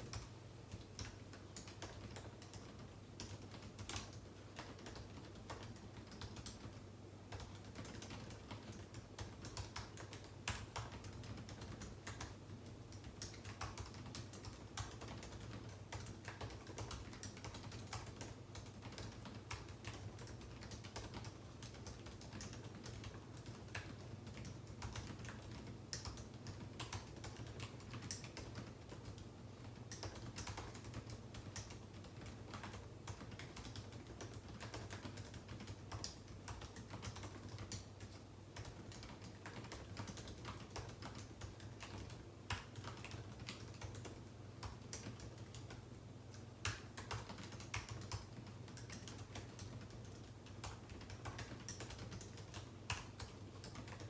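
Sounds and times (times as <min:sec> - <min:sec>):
computer keyboard typing: 0:00.0 - 0:54.0.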